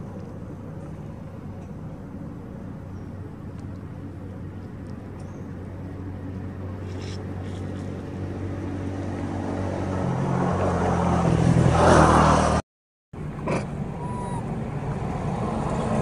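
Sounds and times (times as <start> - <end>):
vehicle engine humming: 0.0 - 12.6, 13.2 - 16.0.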